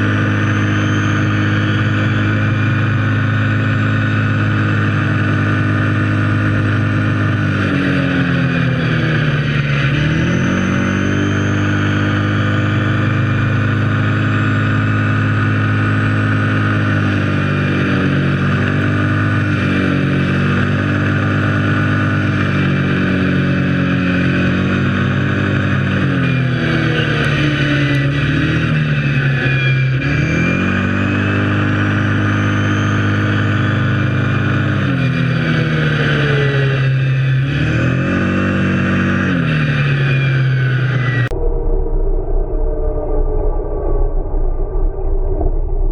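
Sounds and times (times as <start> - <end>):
quad bike engine running: 0.0 - 41.4.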